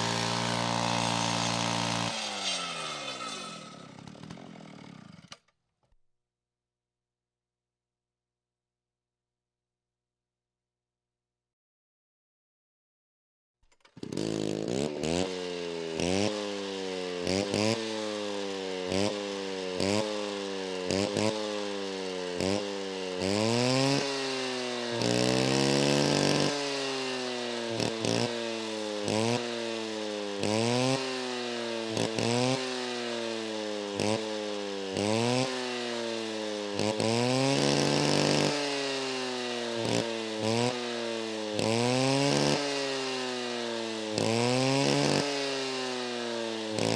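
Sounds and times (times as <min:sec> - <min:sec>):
chainsaw engine revving: 0:00.0 - 0:05.5, 0:13.7 - 0:46.9.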